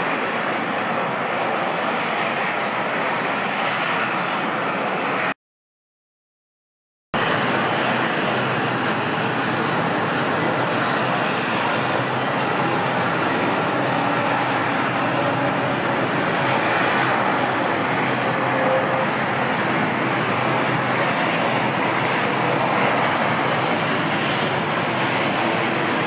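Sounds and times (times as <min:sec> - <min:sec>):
jet engines rushing: 0:00.0 - 0:05.4, 0:07.2 - 0:26.0.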